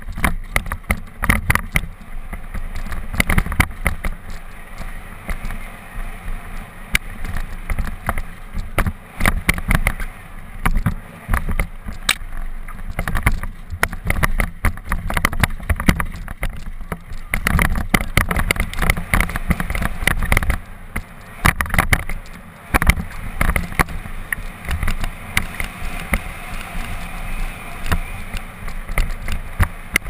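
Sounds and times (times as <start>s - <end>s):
bike rattling over rocks: 0.0s - 30.0s
wind rumble on microphone: 0.0s - 30.0s.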